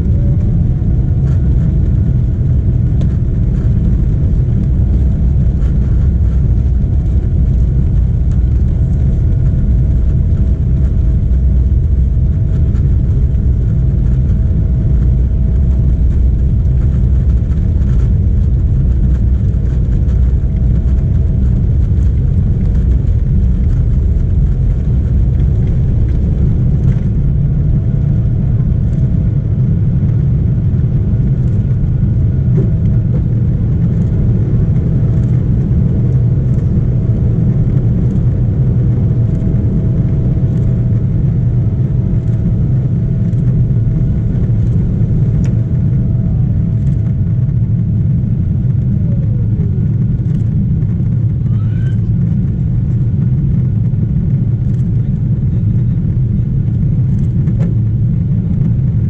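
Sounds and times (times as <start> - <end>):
faint steady whine: 0.0 - 59.0
jet engines rumbling: 0.0 - 59.0.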